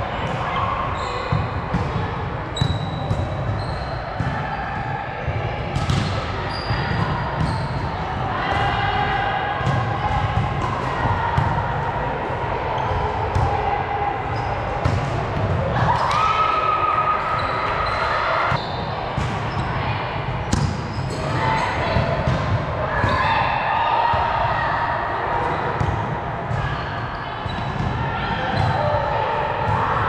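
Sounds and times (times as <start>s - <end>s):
players' voices: 0.0s - 30.0s.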